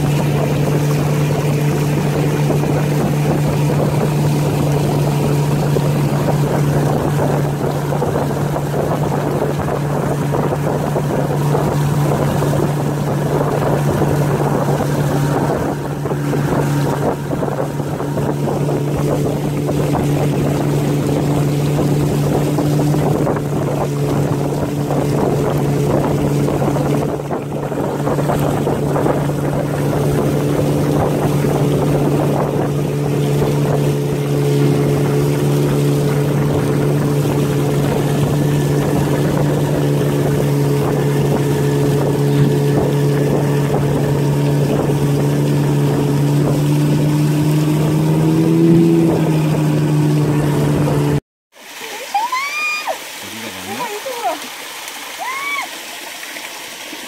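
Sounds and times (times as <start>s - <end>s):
outboard motor running: 0.0s - 51.2s, 51.8s - 57.0s
water rushing along hull: 0.0s - 57.0s.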